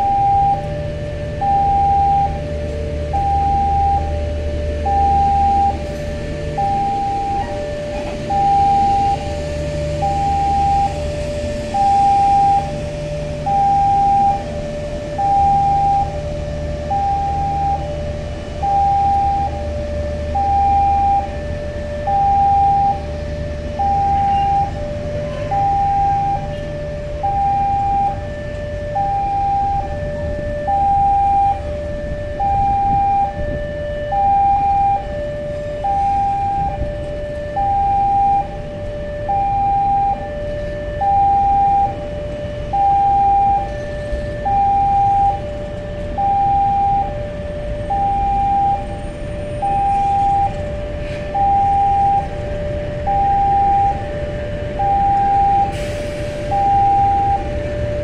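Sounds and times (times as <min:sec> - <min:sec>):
level crossing alarm two-tone: 0:00.0 - 0:58.0
train rumbling: 0:00.0 - 0:58.0.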